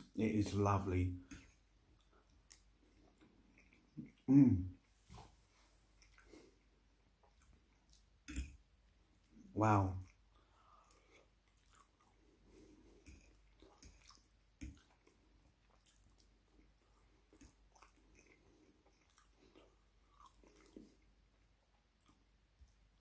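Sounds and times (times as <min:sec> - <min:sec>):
chewing food: 0:01.2 - 0:05.0, 0:05.7 - 0:09.4, 0:10.0 - 0:23.0.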